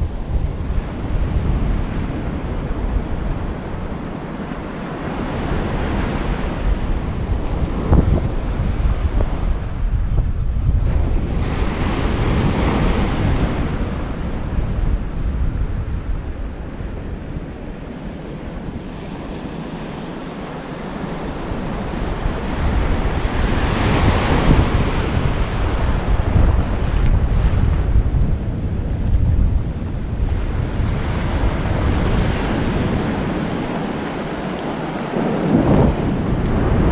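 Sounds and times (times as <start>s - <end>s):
ocean surf breaking: 0.0s - 36.9s
wind buffeting microphone: 0.0s - 36.9s.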